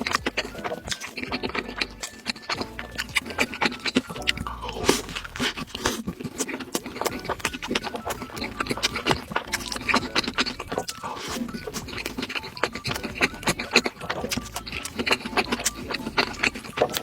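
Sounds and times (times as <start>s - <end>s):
person chewing and crunching food: 0.0s - 17.0s.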